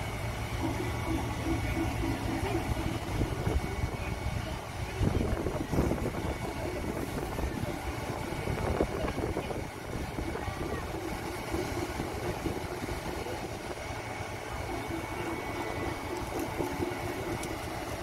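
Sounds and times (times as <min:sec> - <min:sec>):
large engine running: 0:00.0 - 0:18.0
people talking faintly: 0:00.4 - 0:18.0.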